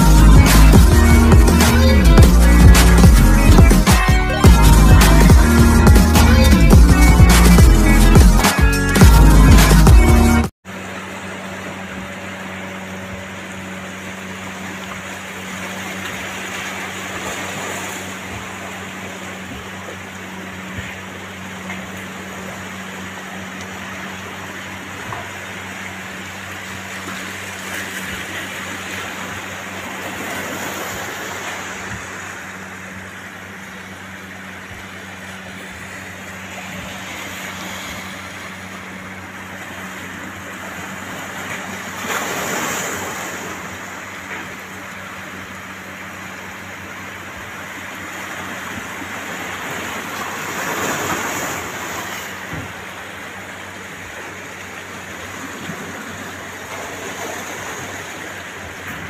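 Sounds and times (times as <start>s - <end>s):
sea water rushing: 0.0s - 59.0s
wind: 0.0s - 59.0s.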